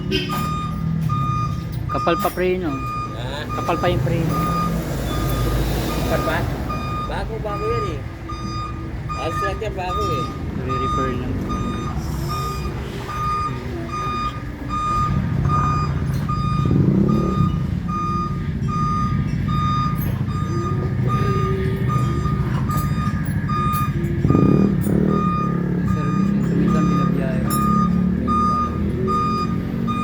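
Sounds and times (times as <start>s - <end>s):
electronic warning beeps: 0.0s - 30.0s.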